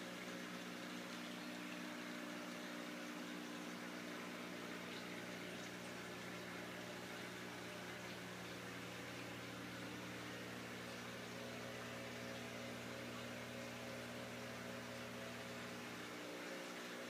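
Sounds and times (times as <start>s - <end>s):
steady electric hum: 0.0s - 17.0s.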